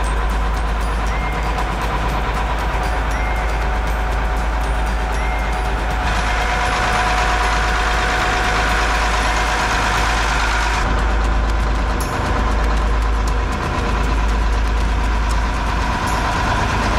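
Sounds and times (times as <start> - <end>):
boat engine idling: 0.0 - 16.9
rushing noise: 0.0 - 16.9.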